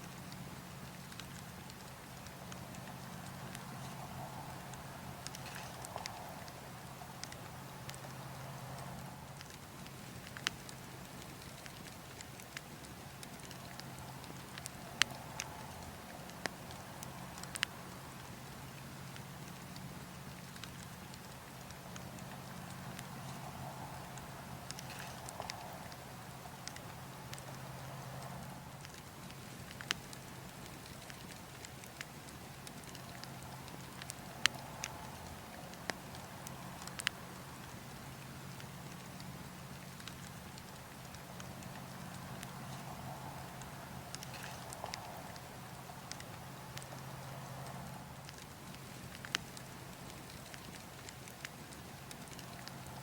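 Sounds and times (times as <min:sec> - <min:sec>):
low rush of wind: 0:00.0 - 0:53.0
wood logs crackling: 0:00.0 - 0:53.0.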